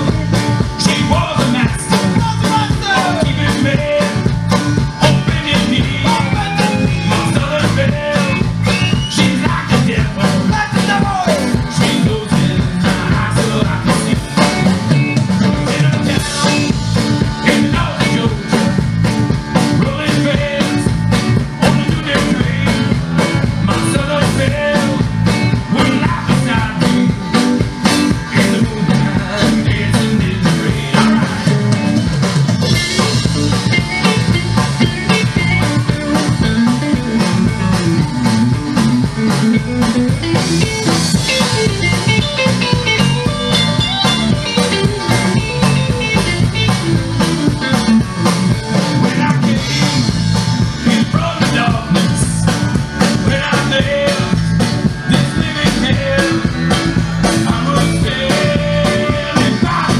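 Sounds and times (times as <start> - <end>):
acoustic guitar: 0.0 - 59.9
bass guitar: 0.0 - 59.9
drum kit beat: 0.0 - 59.9
electric guitar: 0.0 - 59.9.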